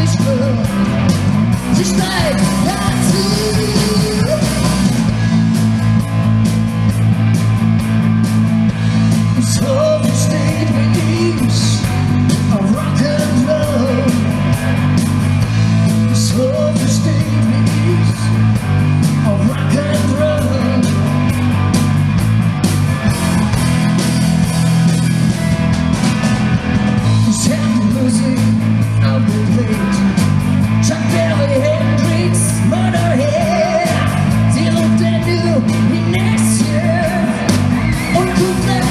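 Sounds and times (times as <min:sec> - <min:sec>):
lead singer: 0:00.0 - 0:06.9, 0:08.6 - 0:22.2, 0:23.0 - 0:38.9
drums: 0:00.0 - 0:38.9
electric guitars: 0:00.0 - 0:38.9.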